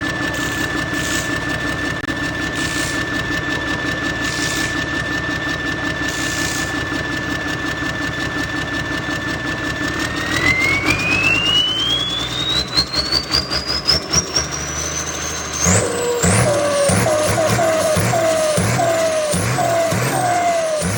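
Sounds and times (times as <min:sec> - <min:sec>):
engine whistle and drone: 0:00.0 - 0:20.9.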